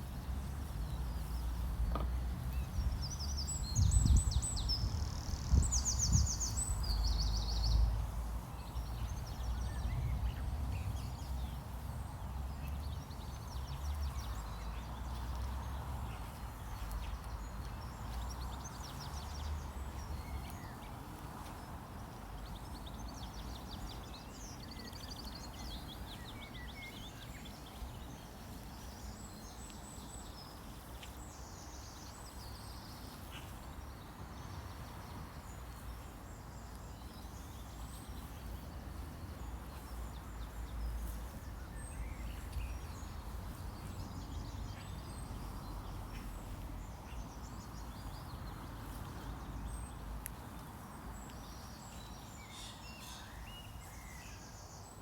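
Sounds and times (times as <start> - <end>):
small birds chirping: 0.2 - 55.0.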